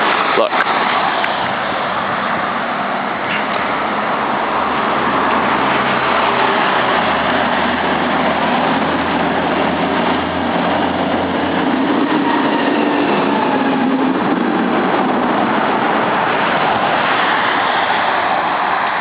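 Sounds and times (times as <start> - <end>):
traffic rushing noise: 0.0 - 19.0
vehicle engine rumbling: 0.0 - 19.0.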